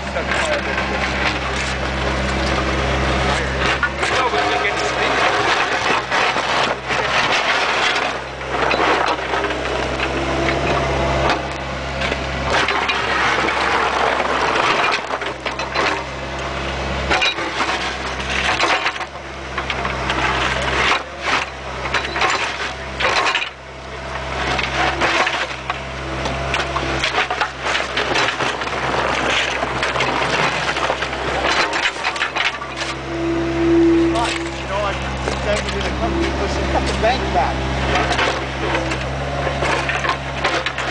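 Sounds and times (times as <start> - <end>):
excavator bucket scraping soil and stones: 0.0 - 40.9
excavator engine and hydraulics drone: 0.0 - 40.9.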